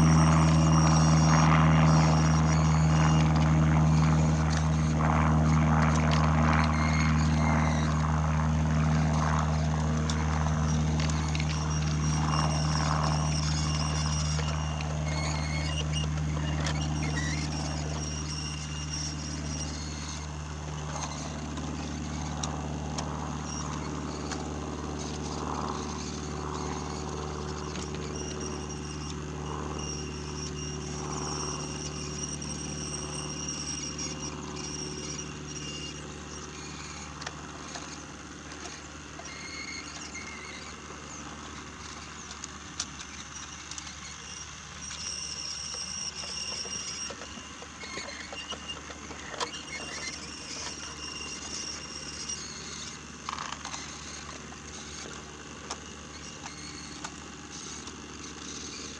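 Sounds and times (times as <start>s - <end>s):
toy train motor hum: 0.0s - 58.9s
wheels clicking on wooden track: 0.0s - 58.9s.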